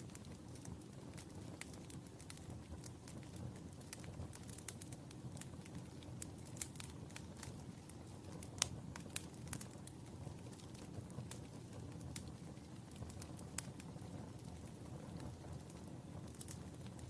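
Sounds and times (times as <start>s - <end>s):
fireplace wood crackling: 0.0s - 17.0s.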